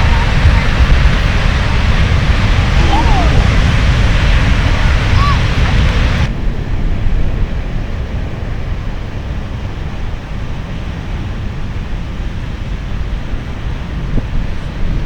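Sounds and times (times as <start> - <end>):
ocean surf rumble: 0.0 - 15.0
wind buffeting microphone: 0.0 - 15.0.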